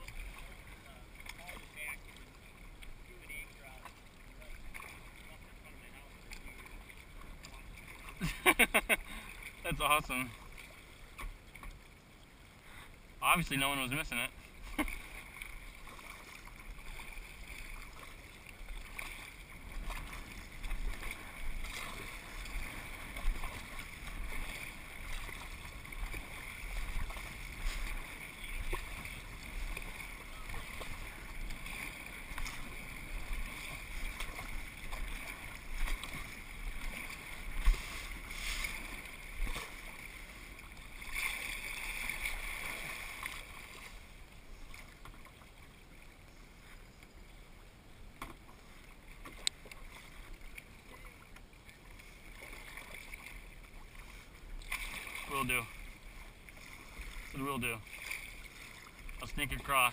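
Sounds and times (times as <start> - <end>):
paddle splashing in water: 0.0 - 59.9
water washing along hull: 0.0 - 59.9.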